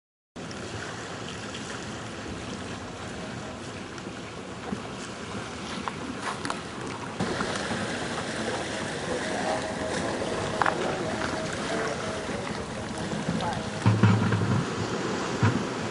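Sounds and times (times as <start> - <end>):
water noise: 0.4 - 15.9
wind: 0.4 - 15.9.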